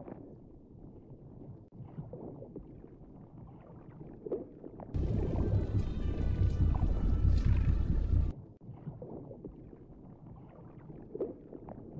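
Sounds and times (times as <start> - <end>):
muffled underwater rumble: 0.0 - 11.9.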